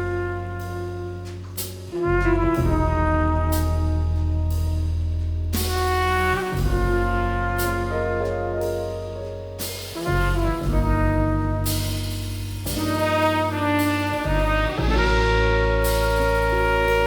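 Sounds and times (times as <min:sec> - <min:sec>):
jazz band playing: 0:00.0 - 0:17.0.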